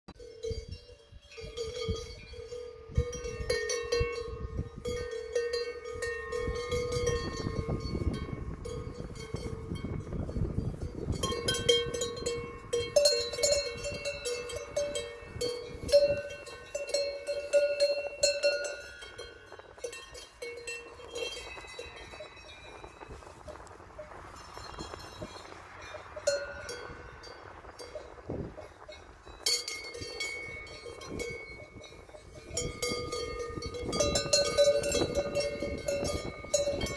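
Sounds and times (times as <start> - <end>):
cowbells clanking: 0.1 - 36.9.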